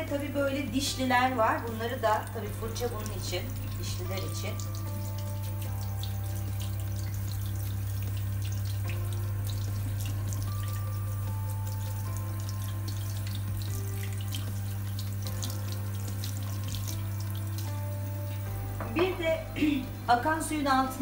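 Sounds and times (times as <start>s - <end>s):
steady low hum: 0.0s - 21.0s
tap water running into sink: 0.8s - 19.4s.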